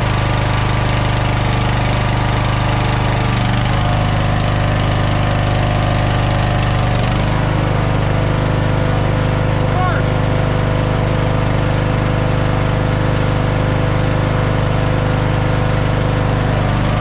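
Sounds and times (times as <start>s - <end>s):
lawn tractor engine running: 0.0s - 17.0s.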